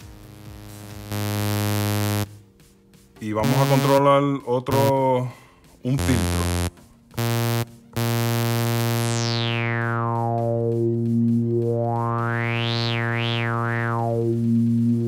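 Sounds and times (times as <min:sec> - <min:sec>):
synthesizer note with filter sweep: 0:00.0 - 0:02.3, 0:03.4 - 0:04.0, 0:04.7 - 0:05.0, 0:06.0 - 0:15.0.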